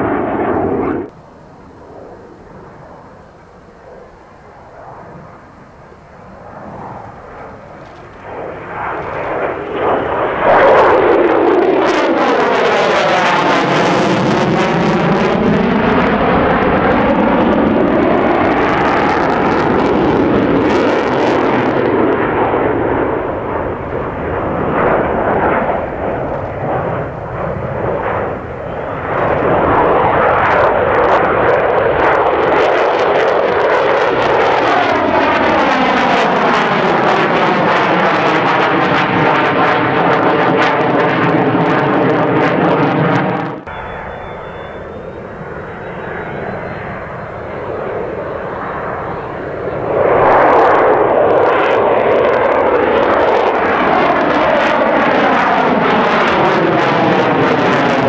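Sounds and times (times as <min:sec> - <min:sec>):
jet engine roaring overhead: 0:00.0 - 0:58.0.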